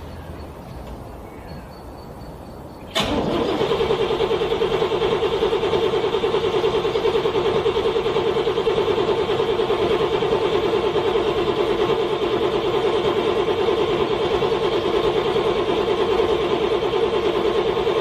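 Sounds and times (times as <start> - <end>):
car engine cranking by starter: 2.9 - 18.0.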